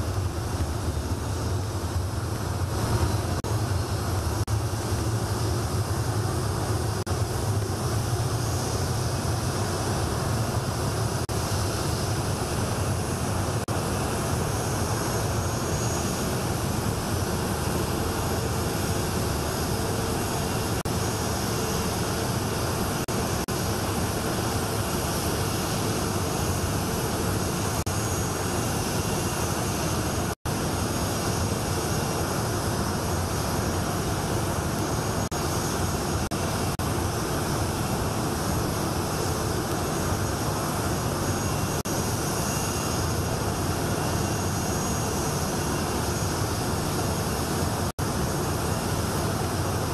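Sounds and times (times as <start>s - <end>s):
faint steady whine: 0.0s - 49.9s
jet engines running: 0.0s - 49.9s.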